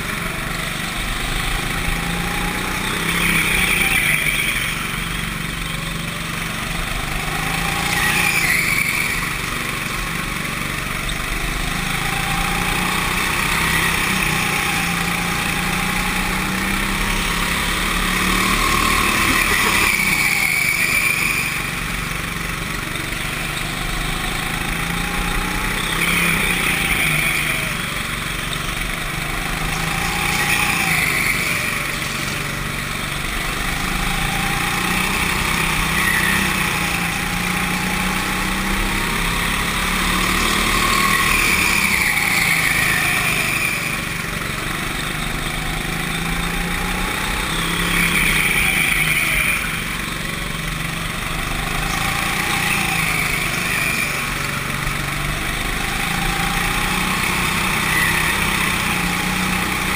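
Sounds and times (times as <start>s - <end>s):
go-kart engine accelerating: 0.0s - 59.9s.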